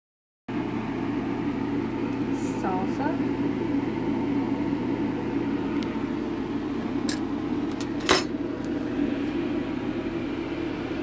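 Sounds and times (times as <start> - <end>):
kitchen vent fan humming: 0.5 - 11.0.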